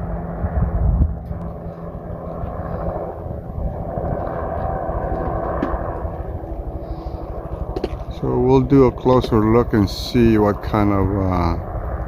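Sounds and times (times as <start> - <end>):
helicopter engine and rotors droning: 0.0 - 12.0
wind rumbling on microphone: 0.0 - 12.0.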